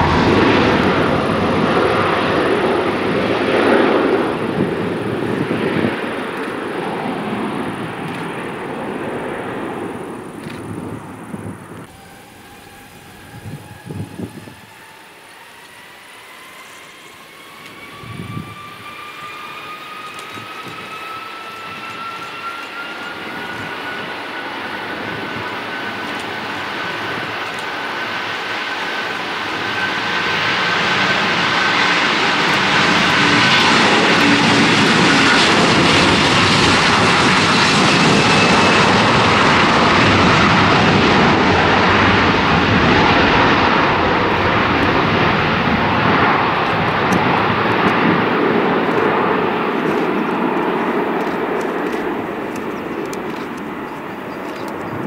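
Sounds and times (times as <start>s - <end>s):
jet engines spooling up: 0.0s - 55.0s
jet roar: 0.0s - 55.0s.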